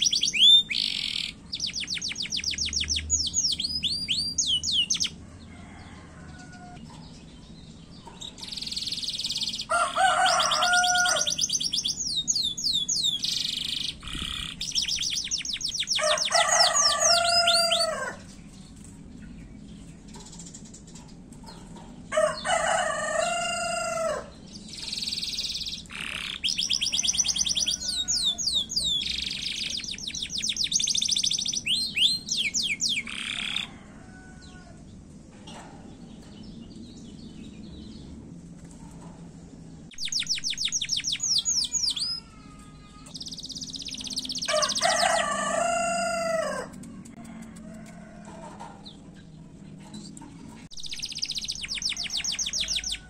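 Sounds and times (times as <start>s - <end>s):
canary singing trills: 0.0s - 34.5s, 39.9s - 47.1s, 49.9s - 53.0s.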